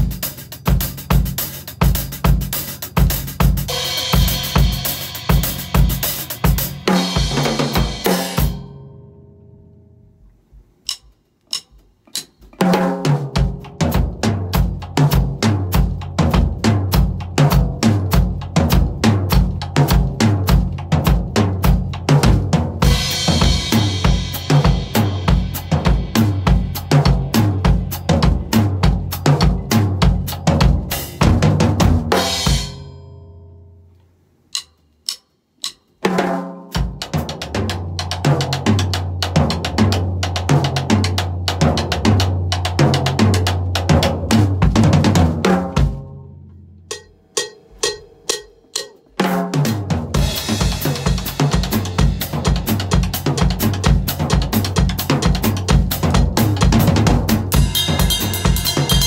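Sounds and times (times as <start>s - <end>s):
drum kit groove: 0.0s - 8.9s, 10.5s - 33.2s, 34.5s - 59.0s.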